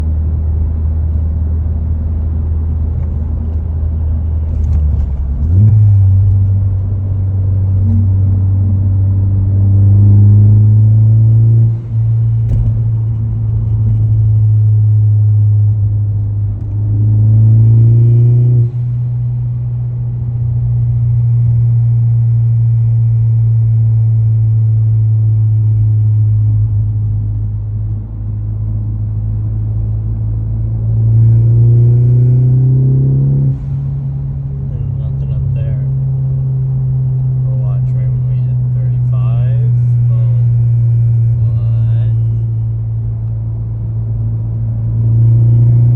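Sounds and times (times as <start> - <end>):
car engine running at raised revs: 0.0 - 45.9.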